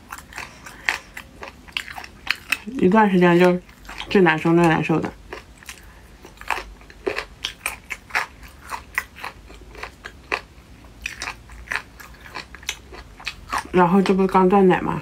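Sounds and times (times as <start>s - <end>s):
person chewing food: 0.0s - 14.2s.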